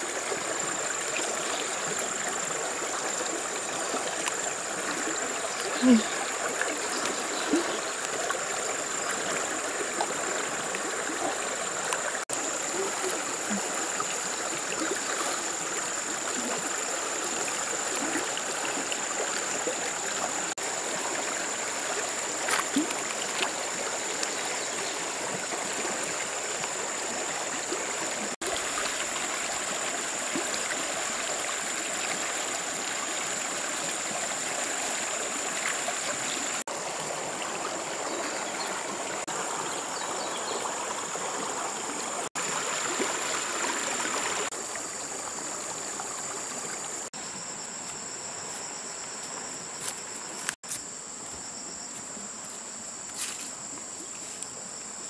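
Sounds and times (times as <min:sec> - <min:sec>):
water rushing over pebbles: 0:00.0 - 0:44.7.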